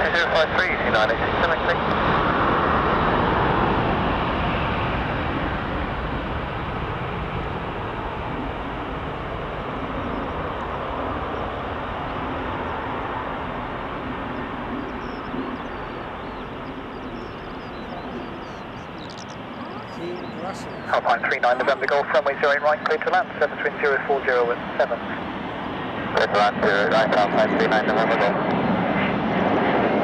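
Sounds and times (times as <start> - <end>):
jet engine roar during takeoff: 0.0 - 30.0.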